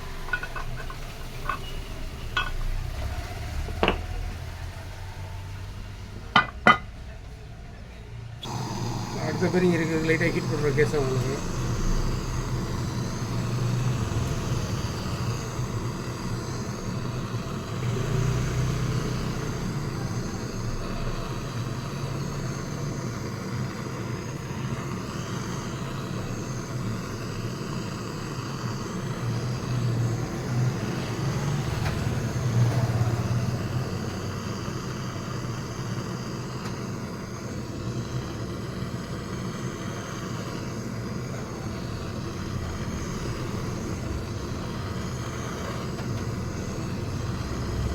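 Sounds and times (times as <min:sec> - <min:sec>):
gas torch flame: 0:00.0 - 0:07.2, 0:08.4 - 0:47.9.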